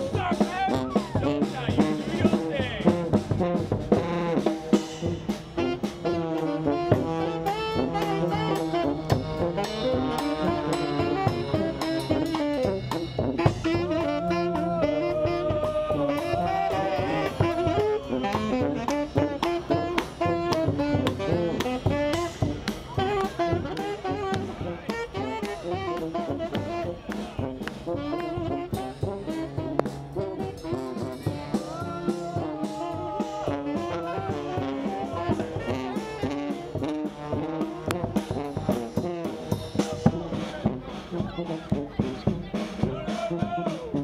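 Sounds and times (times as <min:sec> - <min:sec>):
drum kit beat: 0:00.0 - 0:44.0
horns playing jazz melody: 0:00.0 - 0:44.0.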